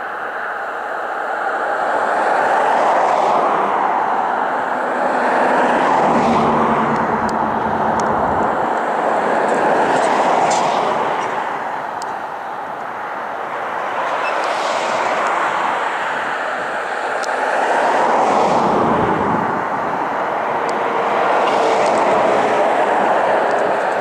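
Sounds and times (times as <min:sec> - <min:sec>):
jet engines roaring on runway: 0:00.0 - 0:24.0.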